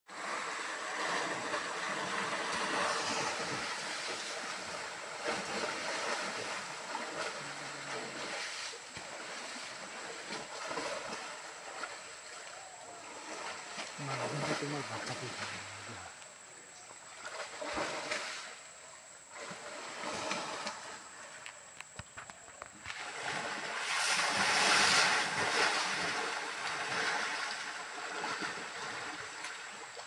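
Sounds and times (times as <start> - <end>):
elephants splashing: 0.1 - 16.2, 17.0 - 21.4, 22.4 - 30.0
rushing stream water: 0.1 - 30.0.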